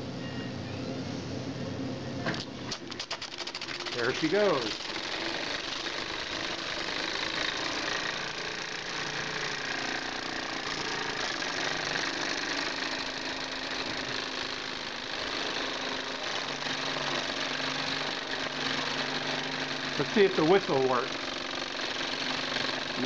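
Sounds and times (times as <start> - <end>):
miniature steam engine chuffing: 2.9 - 23.0.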